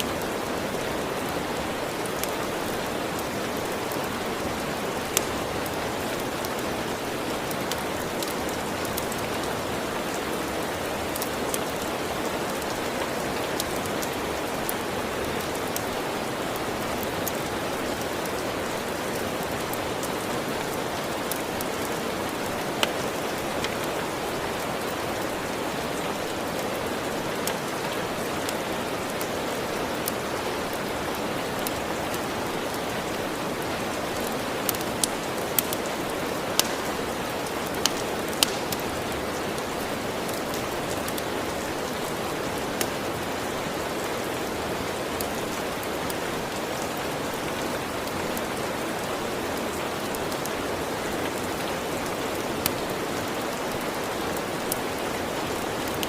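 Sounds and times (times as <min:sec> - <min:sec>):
steady rain hiss: 0:00.0 - 0:56.0
wood fire crackles: 0:00.0 - 0:56.0.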